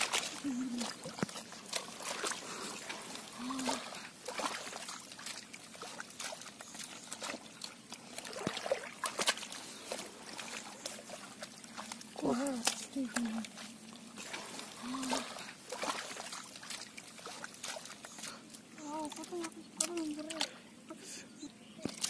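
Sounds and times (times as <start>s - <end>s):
hands digging wet mud: 0.0s - 20.5s
water splashing and dribbling: 0.0s - 22.0s.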